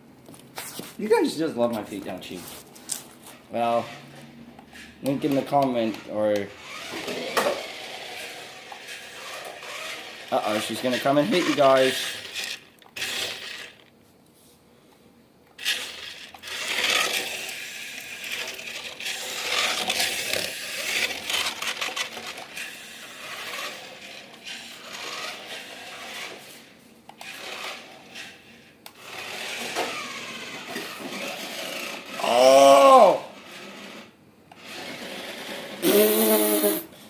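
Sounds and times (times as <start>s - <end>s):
toy car electric motor whirring: 3.6s - 13.9s, 15.6s - 36.9s.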